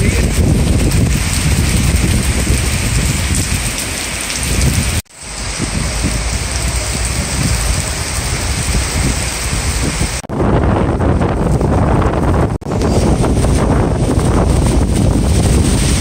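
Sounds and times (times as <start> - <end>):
heavy rain on paving and puddles: 0.0 - 16.0
low rumble: 0.0 - 16.0.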